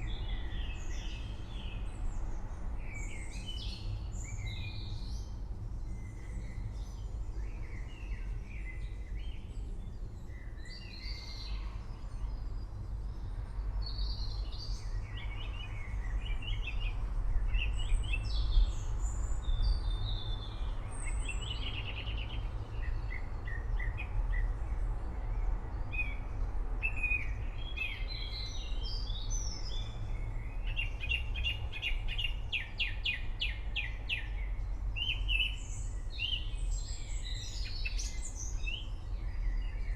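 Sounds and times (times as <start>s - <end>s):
birds chirping and warbling: 0.0s - 39.9s.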